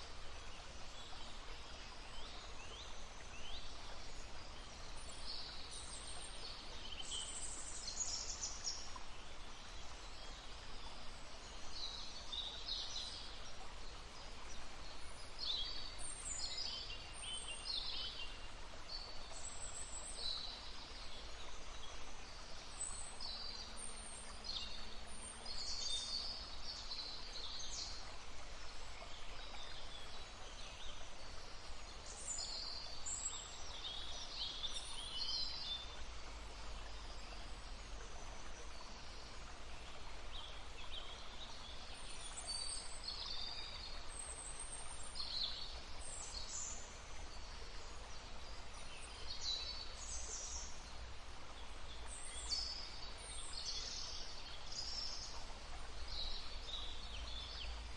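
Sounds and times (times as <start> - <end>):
stream murmuring: 0.0 - 57.9.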